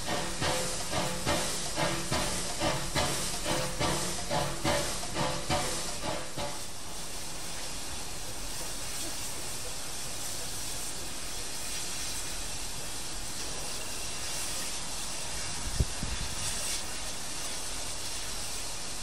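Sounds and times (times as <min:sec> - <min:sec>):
steam hissing: 0:00.0 - 0:19.0.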